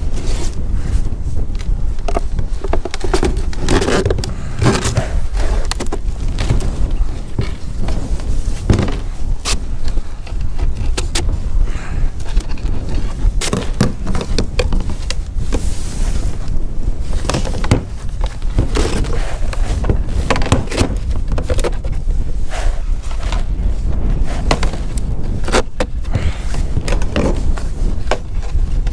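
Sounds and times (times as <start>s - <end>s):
steady low rumble: 0.0s - 28.9s.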